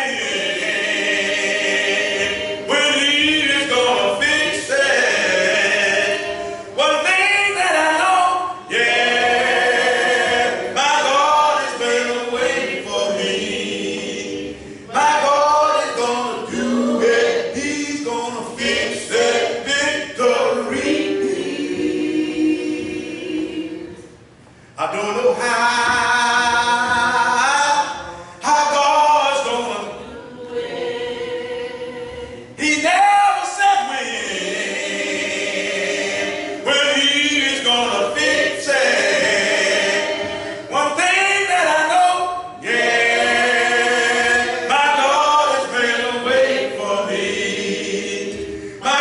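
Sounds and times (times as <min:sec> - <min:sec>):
voices singing a cappella: 0:00.0 - 0:49.0.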